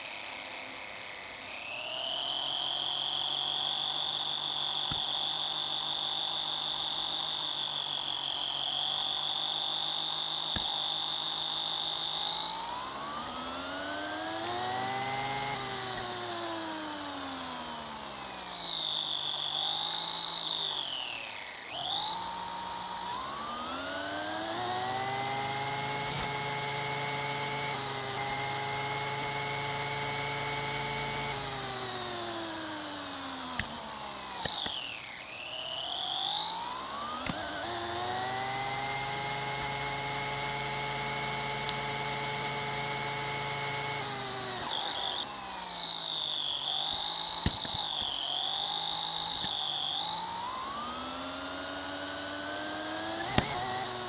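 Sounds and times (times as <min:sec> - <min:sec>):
toy car electric motor whining: 0:00.0 - 0:54.0.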